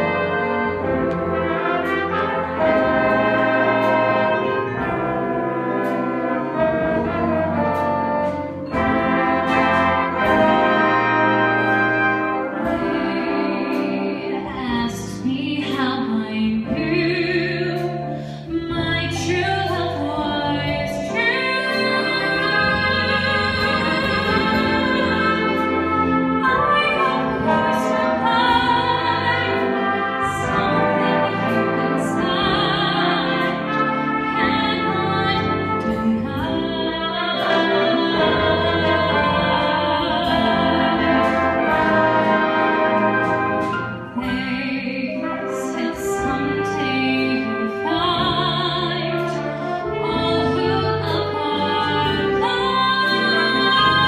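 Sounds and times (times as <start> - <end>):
jazz band with brass: 0.0 - 54.0.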